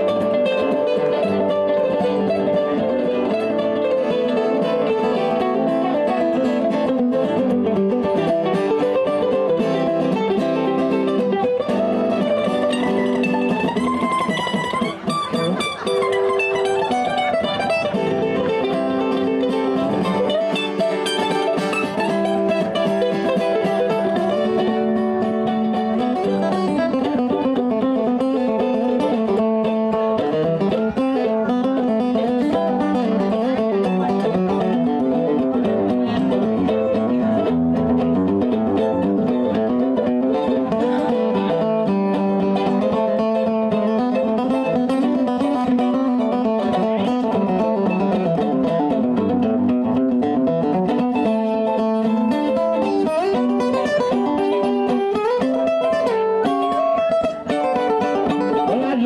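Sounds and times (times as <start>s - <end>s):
acoustic guitar picking: 0.0s - 59.0s
mandolin playing: 0.0s - 59.0s.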